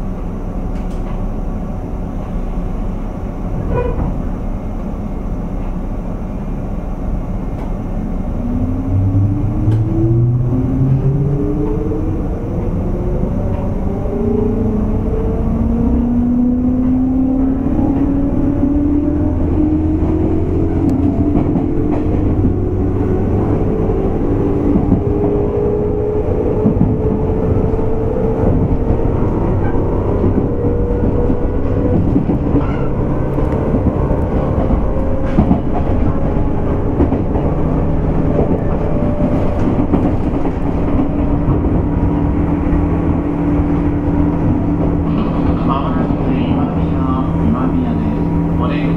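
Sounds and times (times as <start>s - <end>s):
heavy wheel rumble: 0.0s - 48.9s.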